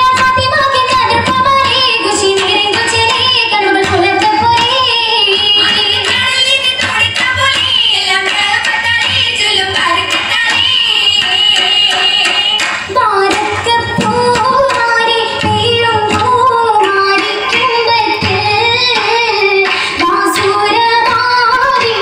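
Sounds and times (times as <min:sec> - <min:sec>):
rhythmic handclaps: 0:00.0 - 0:22.0
woman singing: 0:00.0 - 0:22.0.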